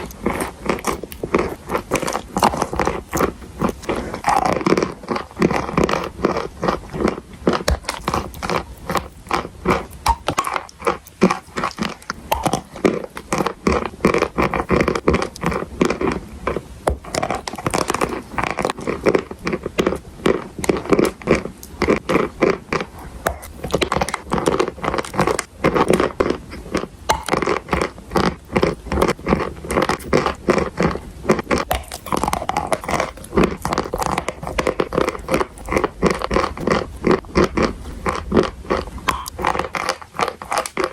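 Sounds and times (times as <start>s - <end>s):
person crunching chalk: 0.0s - 40.9s.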